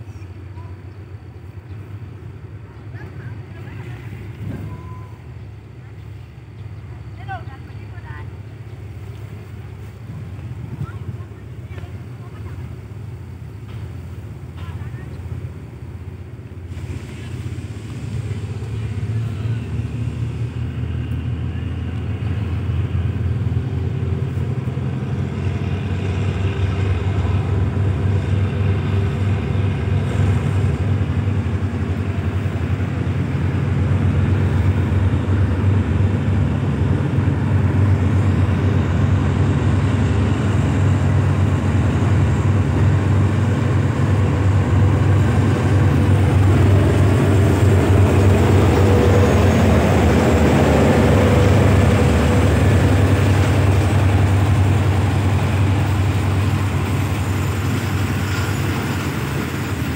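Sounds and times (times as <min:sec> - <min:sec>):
locomotive engine humming: 0:00.0 - 0:59.9
train running noise: 0:00.0 - 0:59.9.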